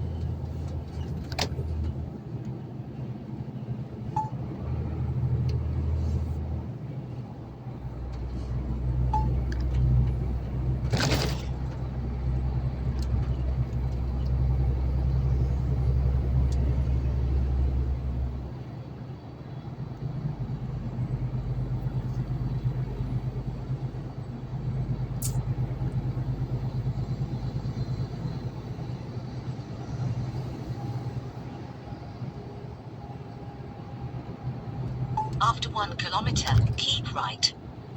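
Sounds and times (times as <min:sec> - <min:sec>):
truck engine and road drone: 0:00.0 - 0:37.9.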